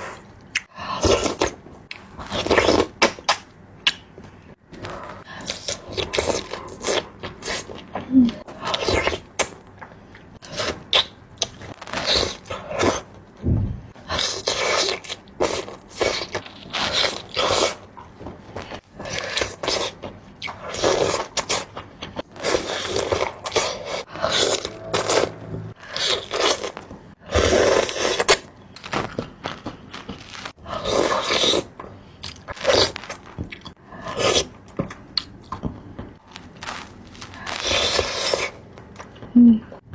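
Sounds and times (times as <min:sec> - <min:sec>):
wet chewing and crunching: 0:04.8 - 0:13.2, 0:14.0 - 0:25.1, 0:25.8 - 0:39.3.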